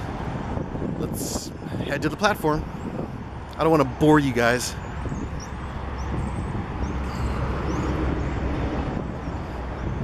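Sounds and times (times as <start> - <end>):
distant traffic: 0.0 - 10.0
wind rumbling on microphone: 0.0 - 10.0.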